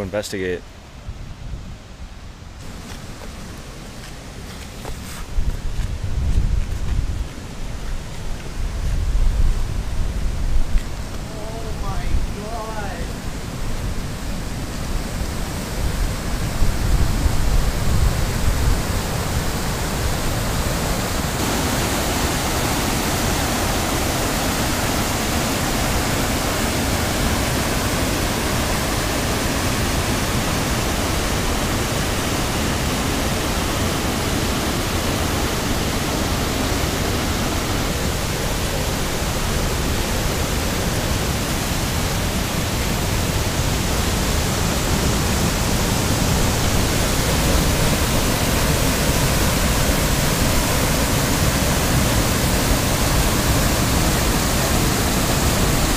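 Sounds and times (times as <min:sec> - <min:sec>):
water rushing over rocks: 0:02.6 - 0:55.9.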